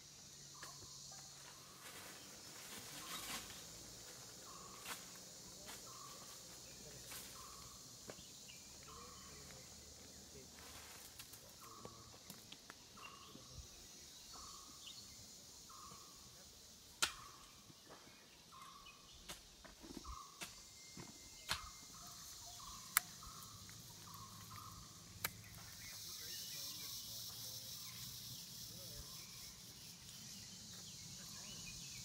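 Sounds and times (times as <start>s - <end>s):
high insect hiss: 0.0s - 32.0s.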